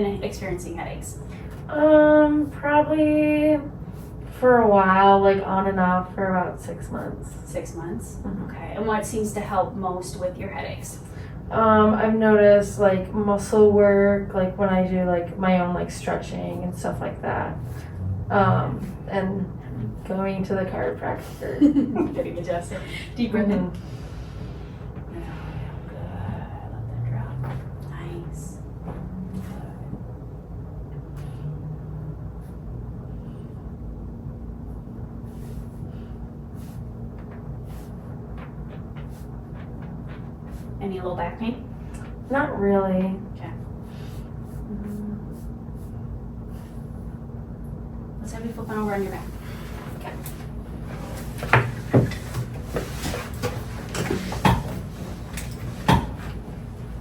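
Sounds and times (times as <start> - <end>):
low background rumble: 0.0 - 57.0
low steady hum: 0.0 - 57.0.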